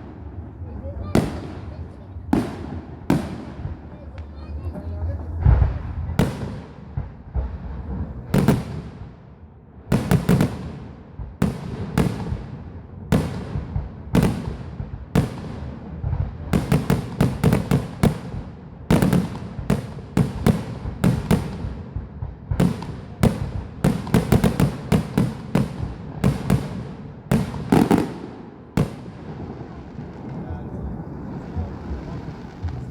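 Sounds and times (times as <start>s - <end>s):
fireworks banging: 0.0s - 32.9s.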